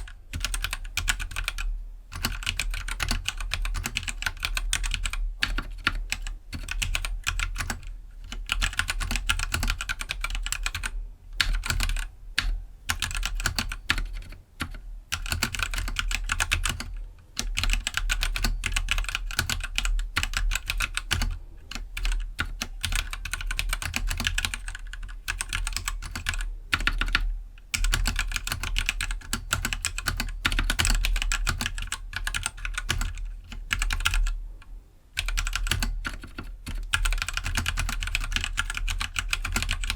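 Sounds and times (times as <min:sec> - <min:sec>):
typing on mechanical keyboard: 0:00.0 - 0:34.4, 0:35.2 - 0:39.9.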